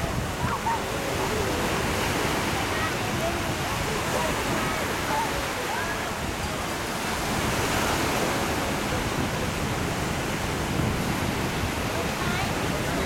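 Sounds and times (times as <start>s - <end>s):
sea surf breaking on sand: 0.0s - 13.0s.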